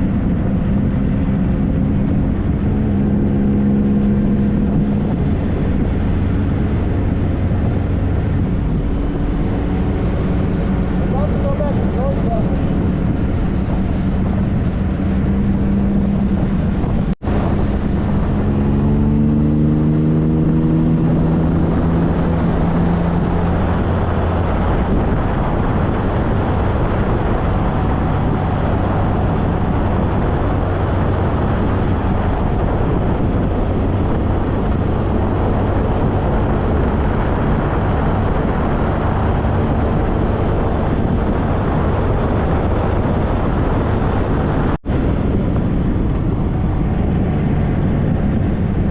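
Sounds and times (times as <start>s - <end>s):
motorcycle engine accelerating: 0.0s - 48.9s
wind and road noise: 0.0s - 48.9s.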